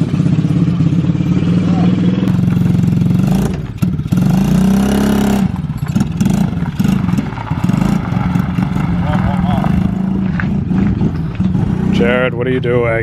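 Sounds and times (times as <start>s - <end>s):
engine running and revving: 0.0s - 12.8s
engine clatter: 0.0s - 13.0s.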